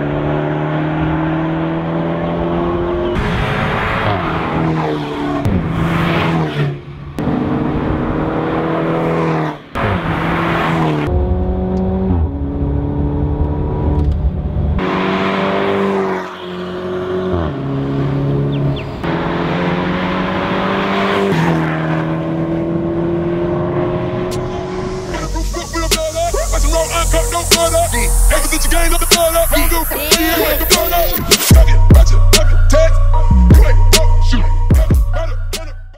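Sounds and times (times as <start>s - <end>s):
car engine accelerating: 0.0s - 34.6s.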